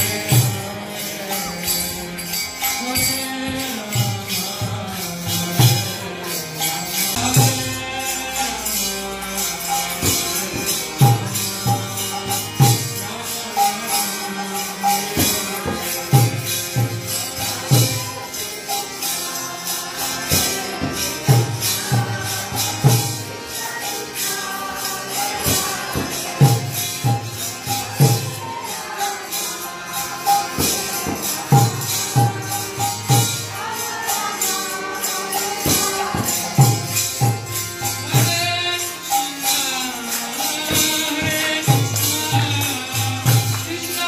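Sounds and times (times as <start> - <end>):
jingling metal percussion: 0.0 - 44.0.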